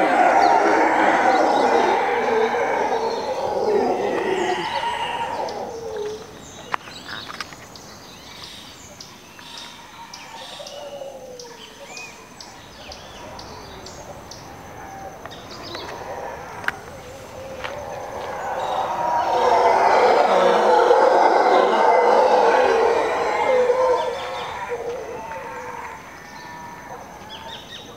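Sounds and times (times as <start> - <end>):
howler monkeys roaring: 0.0 - 6.7, 10.0 - 27.9
birds chirping and calling: 0.0 - 14.6, 15.2 - 27.9.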